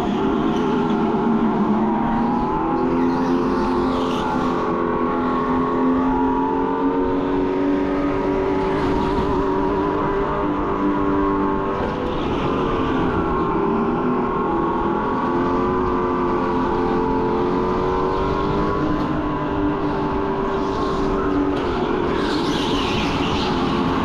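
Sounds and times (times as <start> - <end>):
go-kart motor whine: 0.0 - 24.0.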